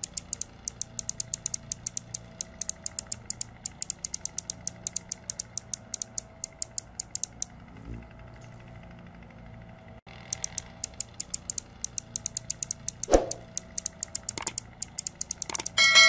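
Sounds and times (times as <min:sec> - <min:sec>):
hummingbird high chips: 0:00.0 - 0:07.4, 0:10.1 - 0:15.8.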